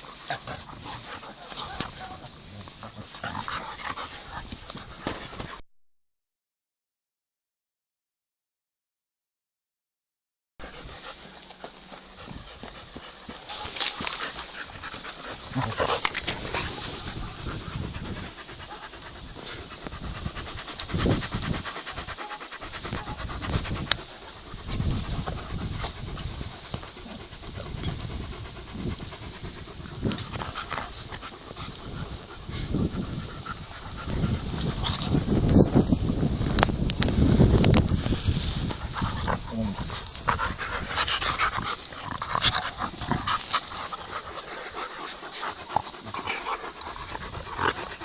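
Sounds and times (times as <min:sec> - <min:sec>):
dog panting: 0:00.0 - 0:05.6, 0:10.6 - 0:35.8, 0:38.6 - 0:48.0.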